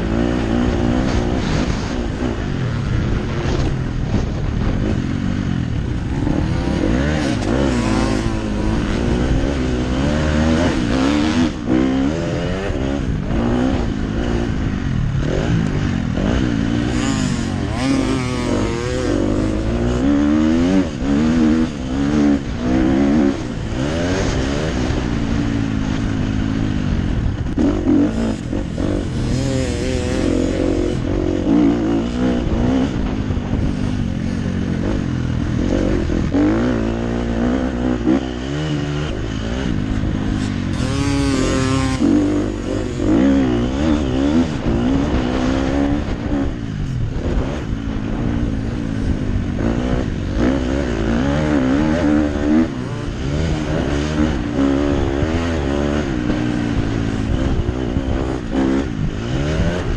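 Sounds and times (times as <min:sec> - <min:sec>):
motocross engine revving: 0:00.0 - 0:59.9.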